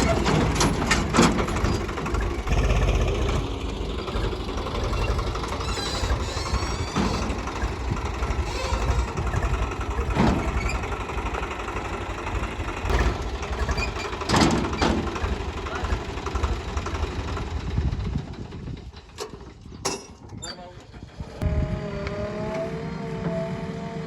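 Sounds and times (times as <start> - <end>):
diesel engine running: 0.0 - 19.8.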